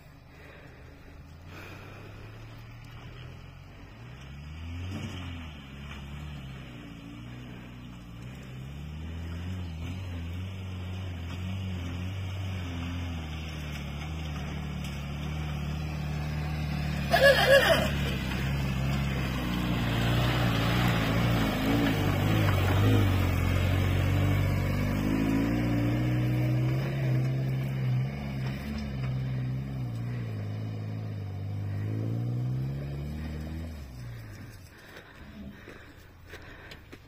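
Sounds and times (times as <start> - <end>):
off-road vehicle engine running: 0.0 - 37.0.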